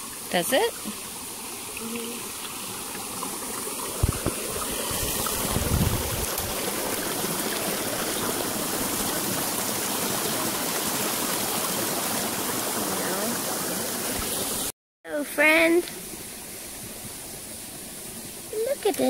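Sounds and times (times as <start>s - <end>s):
creek water over rocks: 0.0s - 19.0s.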